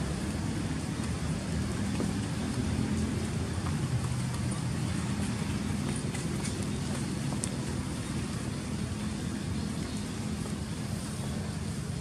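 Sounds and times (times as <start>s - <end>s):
low rumbling outdoor background noise: 0.0s - 12.0s.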